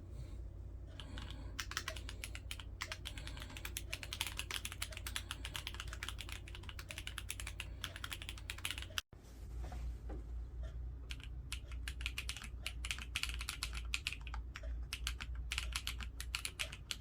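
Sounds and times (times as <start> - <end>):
low steady hum: 0.0 - 17.0
mechanical keyboard typing: 1.0 - 9.0, 11.1 - 17.0.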